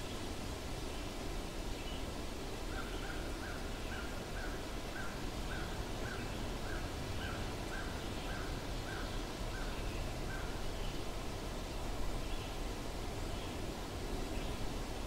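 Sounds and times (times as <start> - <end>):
forest stream rushing: 0.0 - 15.0.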